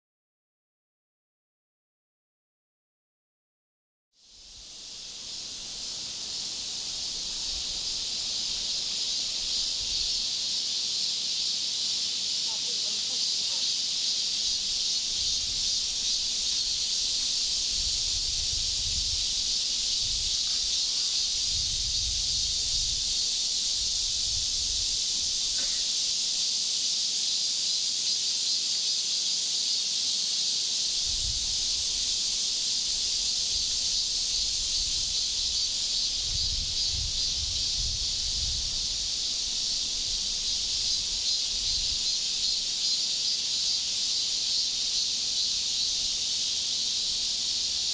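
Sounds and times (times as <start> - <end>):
buzzing chorus of insects: 4.2 - 47.9
pulsing high insect trill: 4.2 - 47.9.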